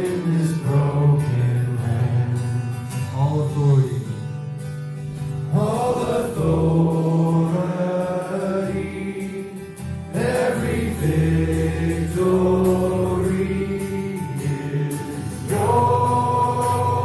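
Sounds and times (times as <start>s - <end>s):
group singing worship song: 0.0s - 3.0s, 5.2s - 17.0s
instrumental backing: 0.0s - 17.0s.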